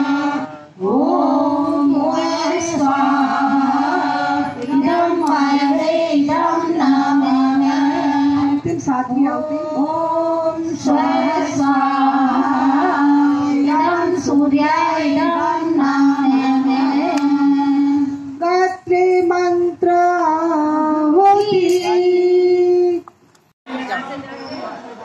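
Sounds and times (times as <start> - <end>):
woman singing slow melody: 0.0 - 23.1.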